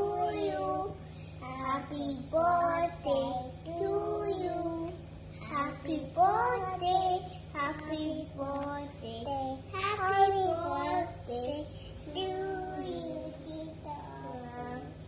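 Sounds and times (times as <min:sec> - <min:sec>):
child singing: 0:00.0 - 0:15.0.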